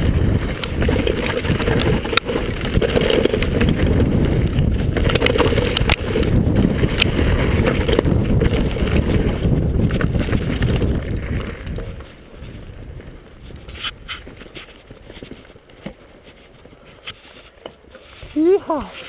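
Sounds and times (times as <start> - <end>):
wind rumble on microphone: 0.0 - 15.5
bike knocking and rattling: 0.0 - 19.0
tyres on dirt trail: 0.0 - 19.0.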